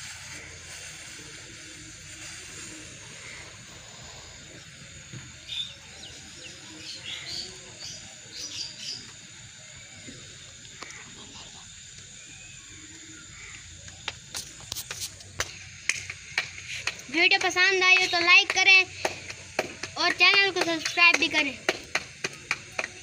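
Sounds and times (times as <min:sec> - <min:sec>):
background hiss: 0:00.0 - 0:23.0
small birds chirping: 0:02.1 - 0:23.0.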